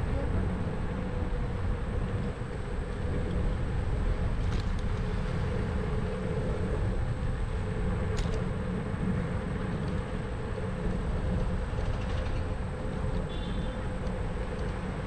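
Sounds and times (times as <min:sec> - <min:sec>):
steady hum: 0:00.0 - 0:15.0
vehicle engine rumbling: 0:00.0 - 0:15.0.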